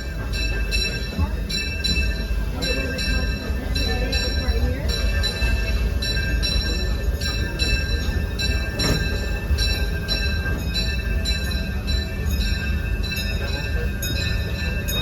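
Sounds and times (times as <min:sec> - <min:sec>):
train rumbling: 0:00.0 - 0:15.0
train wheel clicks: 0:00.0 - 0:15.0.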